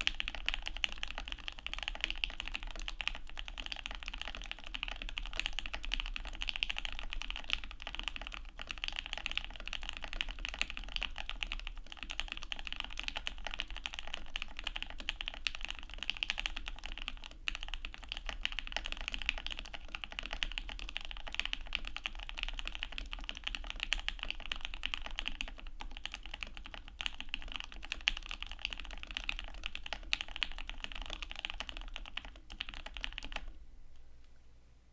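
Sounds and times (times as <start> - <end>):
fast mechanical keyboard typing: 0.0 - 33.6.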